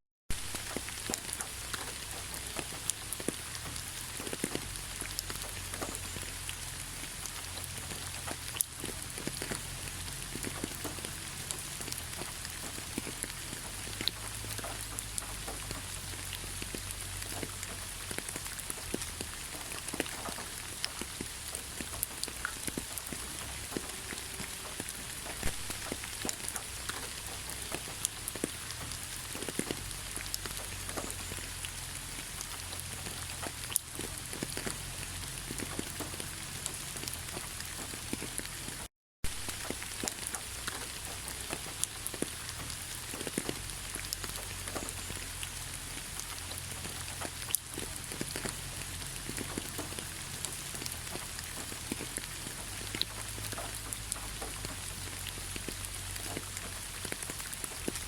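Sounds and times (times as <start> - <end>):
heavy rain with drop impacts: 0.3 - 58.0.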